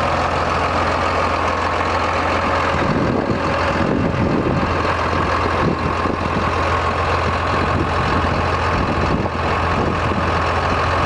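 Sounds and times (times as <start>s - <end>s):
steady whine: 0.0s - 11.0s
tractor diesel engine idling: 0.0s - 11.0s.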